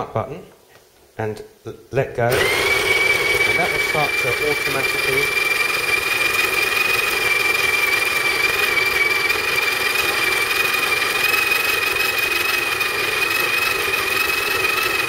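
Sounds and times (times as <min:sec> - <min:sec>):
coffee grinder whining: 0:02.3 - 0:15.0.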